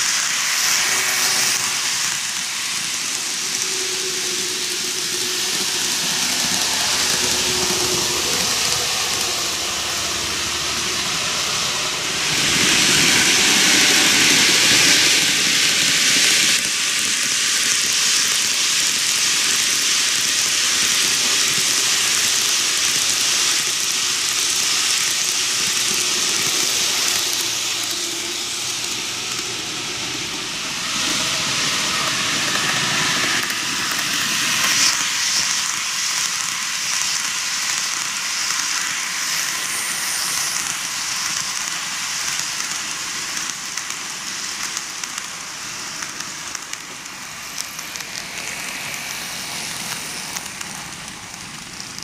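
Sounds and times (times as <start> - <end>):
model train wheels rolling on rails: 0.0 - 52.0.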